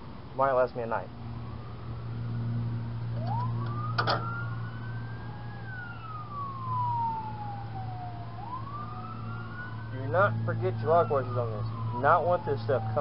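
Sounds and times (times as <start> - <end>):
siren wailing: 1.2 - 13.0.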